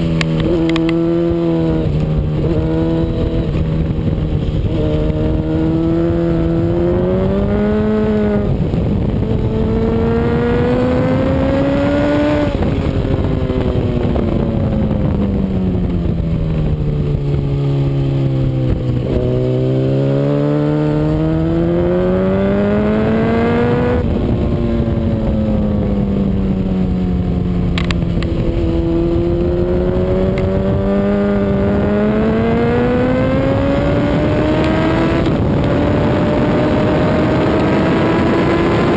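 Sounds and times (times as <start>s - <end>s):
motorcycle engine: 0.0s - 38.9s
wind rush: 0.0s - 38.9s.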